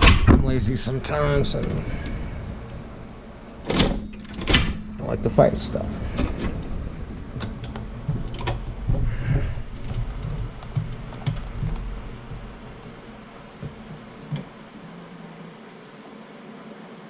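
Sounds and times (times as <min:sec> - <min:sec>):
low rumble: 0:00.0 - 0:14.7
soft low knocks: 0:00.0 - 0:14.8.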